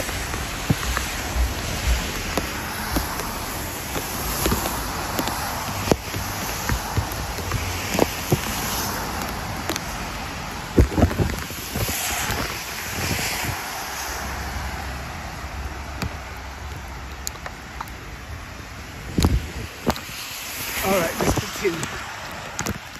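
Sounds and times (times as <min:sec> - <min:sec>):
light rain hiss: 0:00.0 - 0:22.9
traffic on wet street: 0:00.0 - 0:22.9
wind buffeting microphone: 0:00.0 - 0:22.9.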